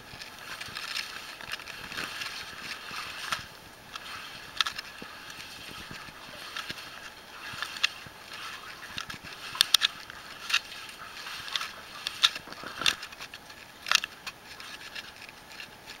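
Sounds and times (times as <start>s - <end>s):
boots splashing through water: 0.0s - 14.8s.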